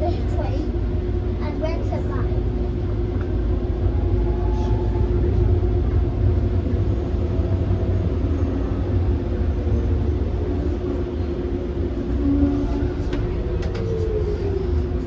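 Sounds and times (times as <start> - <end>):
train wheels rumbling: 0.0 - 15.0
train whine: 0.0 - 15.0.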